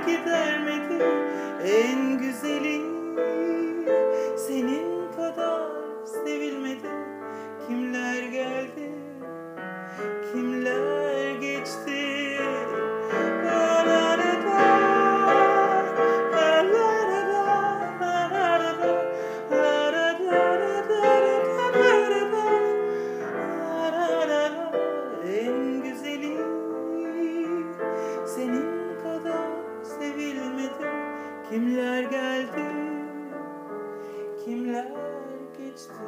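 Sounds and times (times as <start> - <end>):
countertenor singing: 0.0 - 9.3, 10.0 - 33.5
piano accompaniment: 0.0 - 36.0.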